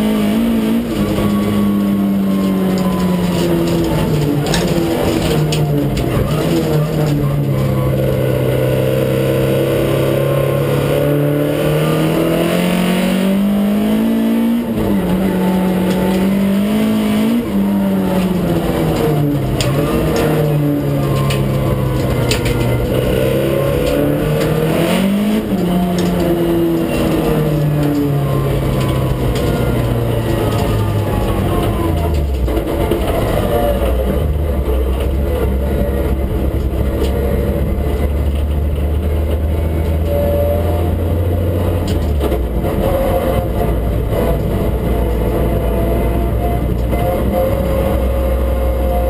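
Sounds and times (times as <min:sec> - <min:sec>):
racing car engine revving: 0:00.0 - 0:49.0.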